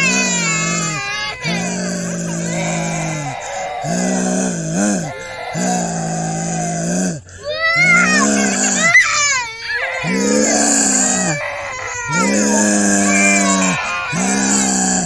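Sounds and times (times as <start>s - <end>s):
high squealing cries: 0.0s - 15.0s
person making monster moans: 0.0s - 15.0s.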